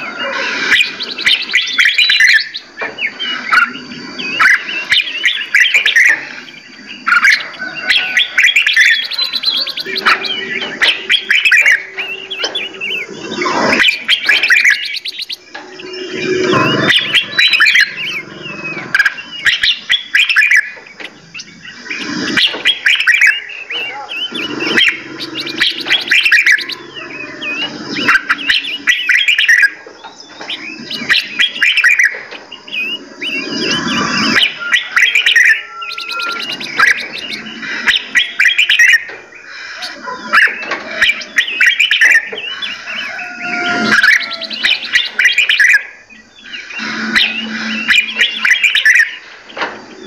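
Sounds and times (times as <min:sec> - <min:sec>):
songbirds chirping and singing: 0:00.0 - 0:50.0.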